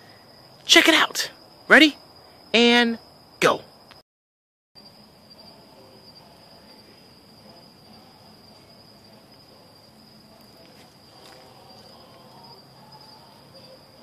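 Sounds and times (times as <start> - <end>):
night insects trilling: 0.0 - 4.0, 4.8 - 14.0.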